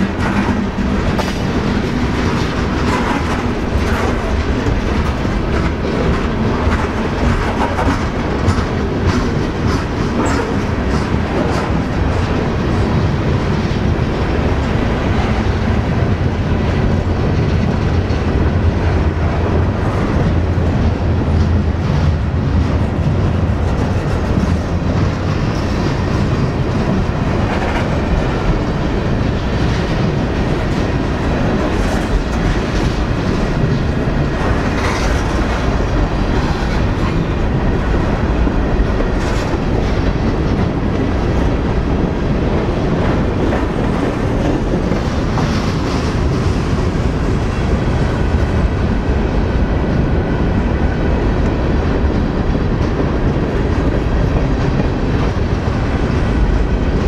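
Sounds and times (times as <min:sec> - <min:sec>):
wheels clicking over rail joints: 0:00.0 - 0:48.7
steel wheels rumbling on rail: 0:00.0 - 0:57.0.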